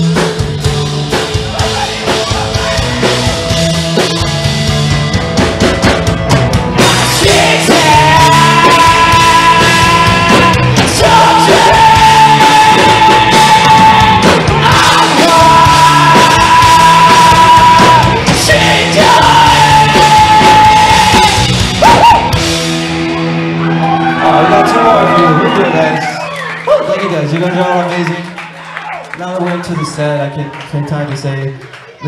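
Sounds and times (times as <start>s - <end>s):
electric guitars: 0.0s - 26.7s
bass guitar: 0.0s - 26.8s
drums: 0.0s - 27.1s.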